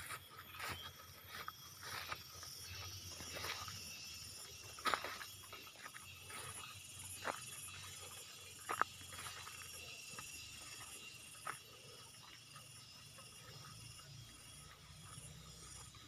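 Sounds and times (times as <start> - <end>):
insect trill: 0.0 - 16.0
pulsing insect buzz: 0.0 - 16.0.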